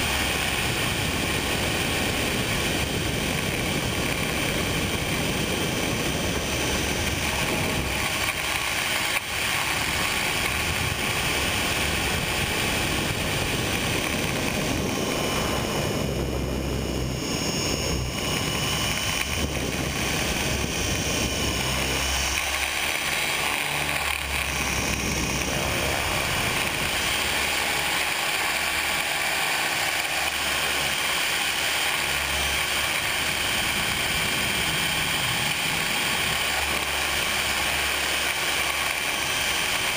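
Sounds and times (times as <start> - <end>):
rushing air noise: 0.0 - 38.3
model helicopter whine: 0.0 - 39.9.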